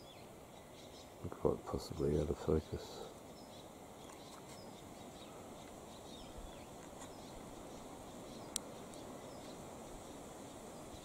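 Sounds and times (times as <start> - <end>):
distant bird chirps: 0.0 - 11.0
soft background hiss: 0.0 - 11.0.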